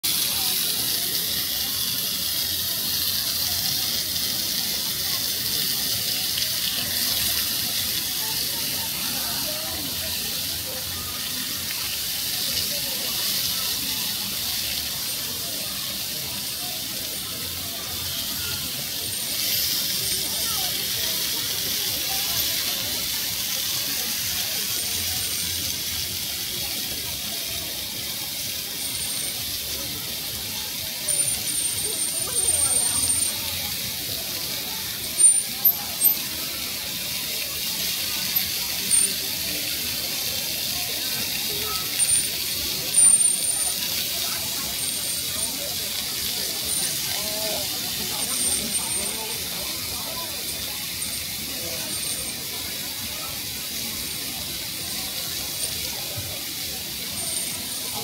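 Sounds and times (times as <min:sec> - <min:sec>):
high-pitched hiss: 0:00.1 - 0:58.0.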